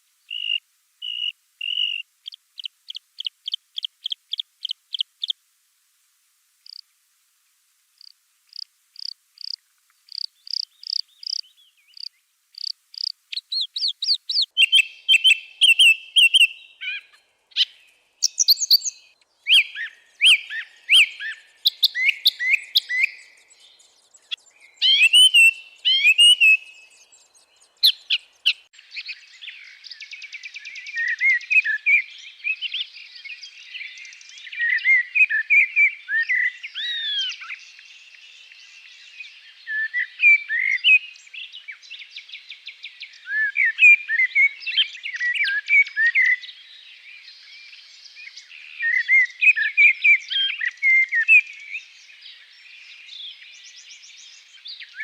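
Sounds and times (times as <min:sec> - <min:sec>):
songbirds singing: 0:00.0 - 0:05.4, 0:08.0 - 0:55.0
faint buzzing bird trill: 0:00.2 - 0:05.4, 0:06.6 - 0:06.9, 0:08.0 - 0:55.0.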